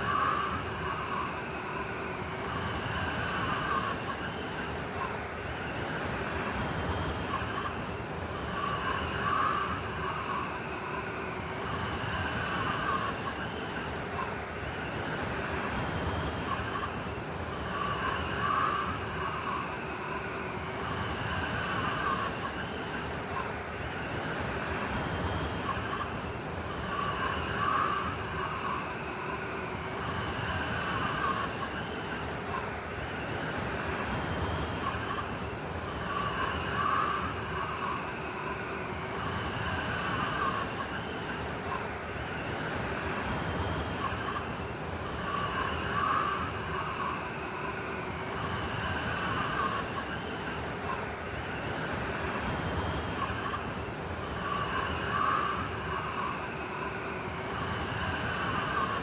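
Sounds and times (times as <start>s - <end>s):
blizzard wind roaring: 0.0s - 59.0s
whistling wailing wind gusts: 0.0s - 59.0s.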